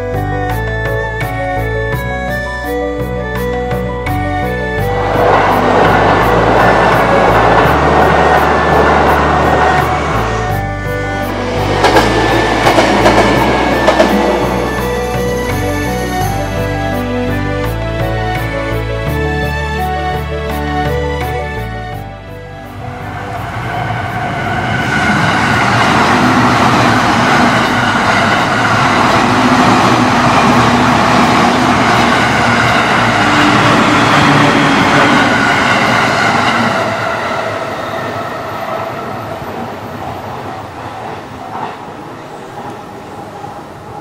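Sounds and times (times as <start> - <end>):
electric train passing: 0.0 - 44.0.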